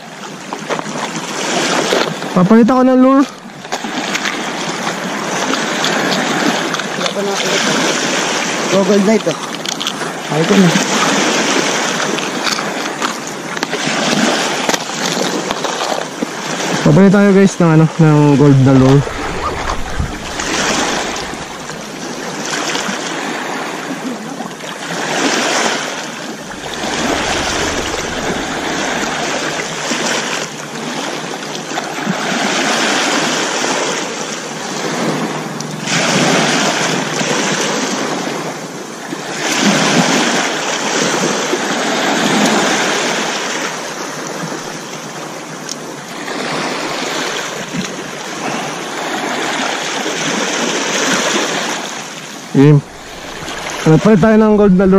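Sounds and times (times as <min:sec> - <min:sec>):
waves on a pebble shore: 0:00.0 - 0:54.9.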